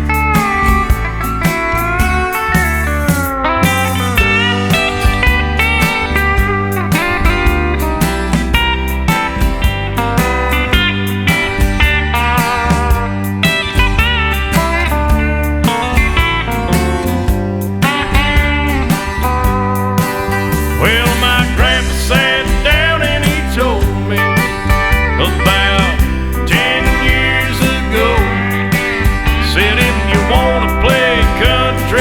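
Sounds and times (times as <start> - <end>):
bass and drum beat: 0.0 - 32.0
guitar: 0.0 - 32.0
slide guitar notes: 0.0 - 32.0.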